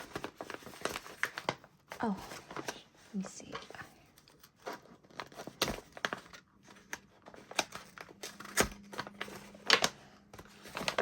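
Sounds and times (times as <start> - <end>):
gift wrapping crinkling: 0.0 - 11.0.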